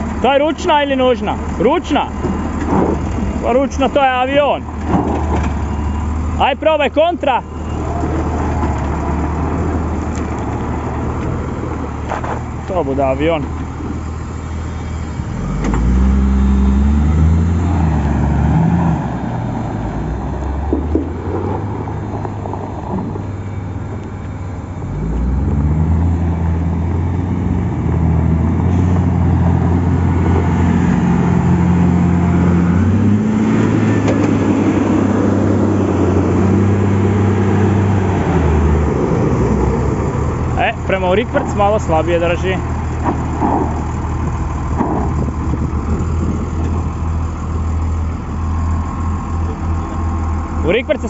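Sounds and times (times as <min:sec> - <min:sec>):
diesel engine revving under load: 0:00.0 - 0:51.0.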